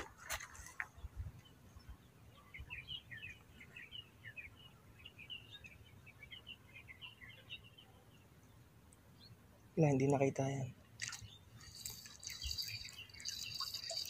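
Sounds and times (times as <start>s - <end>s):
small birds chirping: 0.4s - 14.0s.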